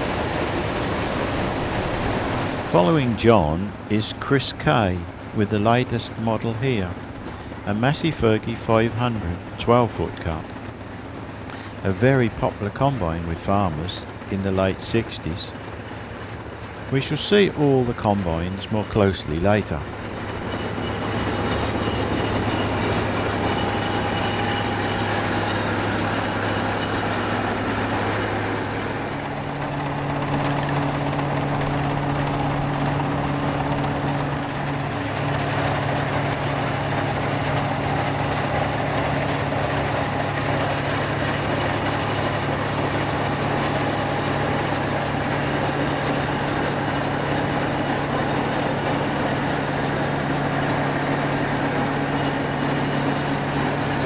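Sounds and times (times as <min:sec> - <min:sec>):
combine harvester engines running: 0:00.0 - 0:54.0.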